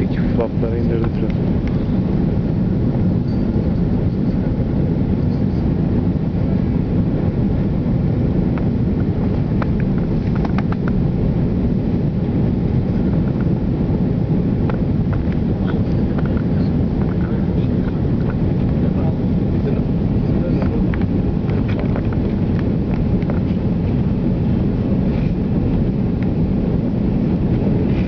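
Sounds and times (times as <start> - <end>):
airliner engines rumbling in cabin: 0.0 - 28.0.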